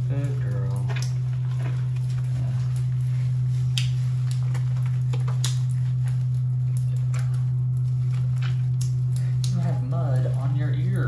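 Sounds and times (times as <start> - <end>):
steady low hum: 0.0 - 11.0
wet squishing lather: 0.0 - 11.0.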